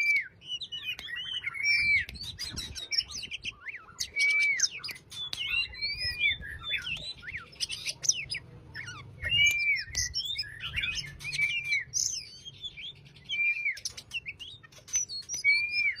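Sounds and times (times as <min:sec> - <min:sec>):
bird singing whistles and clicks: 0:00.0 - 0:16.0.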